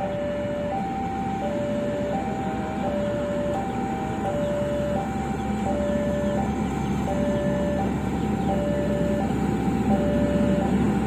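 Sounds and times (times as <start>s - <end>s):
diesel machine rumble on rails: 0.0s - 11.0s
level crossing two-tone alarm: 0.0s - 11.0s.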